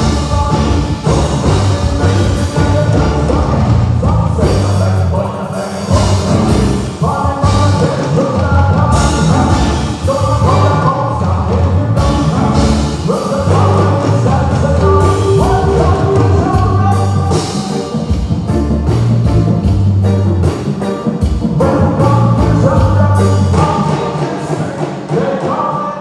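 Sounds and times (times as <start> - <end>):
person singing: 0.0 - 18.7, 20.8 - 26.0
bass: 0.0 - 24.0
drum kit: 0.0 - 26.0
guitar: 0.0 - 26.0.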